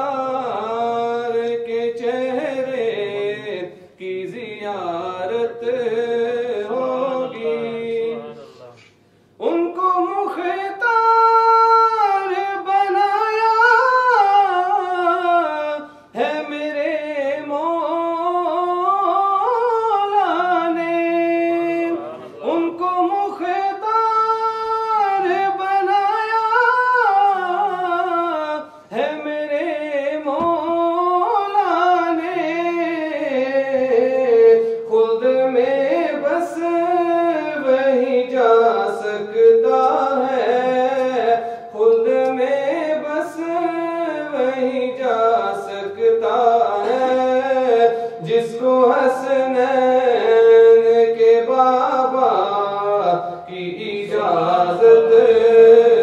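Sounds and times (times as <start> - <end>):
man singing unaccompanied: 0.0 - 8.5, 9.3 - 56.0.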